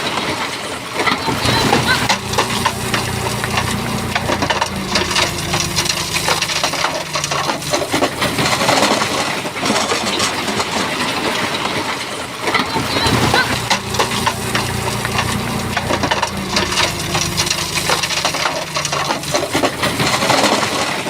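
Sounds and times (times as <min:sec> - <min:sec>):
bulldozer diesel engine running: 0:00.1 - 0:21.0.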